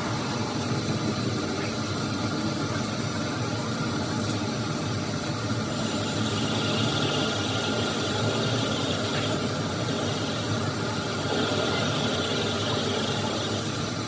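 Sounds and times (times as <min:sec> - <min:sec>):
machine running with whine: 0:00.0 - 0:14.0.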